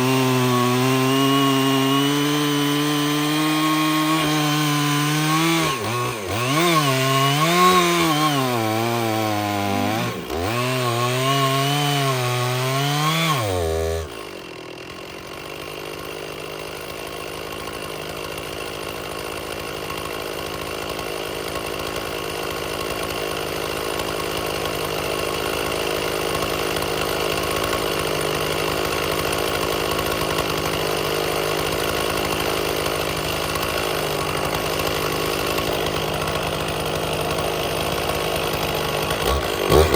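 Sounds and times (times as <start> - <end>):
chainsaw cutting wood: 0.0 - 39.9
steady chainsaw sound: 0.0 - 39.9.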